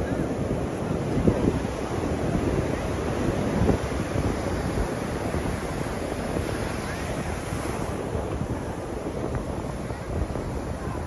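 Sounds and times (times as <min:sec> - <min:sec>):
ocean surf on a beach: 0:00.0 - 0:11.0
wind buffeting microphone: 0:00.0 - 0:11.0.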